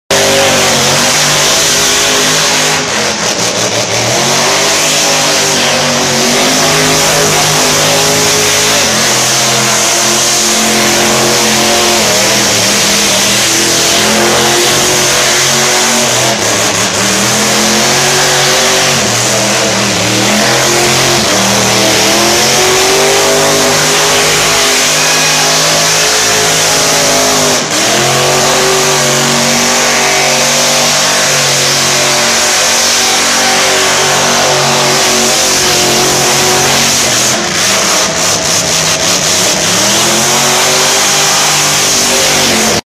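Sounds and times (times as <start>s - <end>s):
truck engine revving hard: 0.0s - 42.9s.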